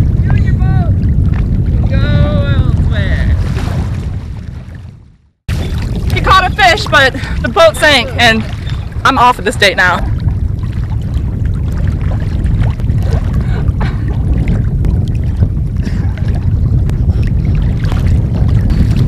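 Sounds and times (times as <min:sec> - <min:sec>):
wind buffeting microphone: 0:00.0 - 0:19.0
sea water lapping and splashing: 0:00.6 - 0:19.0.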